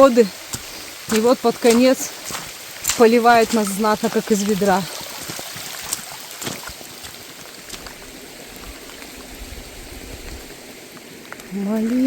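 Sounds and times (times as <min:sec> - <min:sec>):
heavy rain pouring: 0:00.0 - 0:12.0
raindrops tapping close by: 0:00.0 - 0:12.0.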